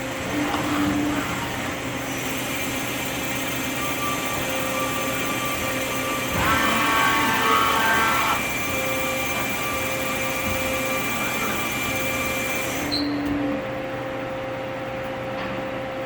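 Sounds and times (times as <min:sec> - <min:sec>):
loud multi-tone machine whine: 0:00.0 - 0:16.0
machine hum with whining tones: 0:00.0 - 0:16.0.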